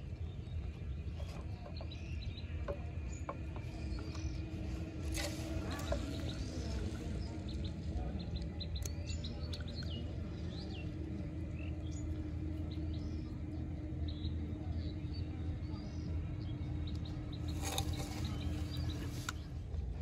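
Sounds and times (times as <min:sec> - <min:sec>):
small birds chirping: 0:00.0 - 0:19.8
faint steady hum: 0:00.0 - 0:20.0.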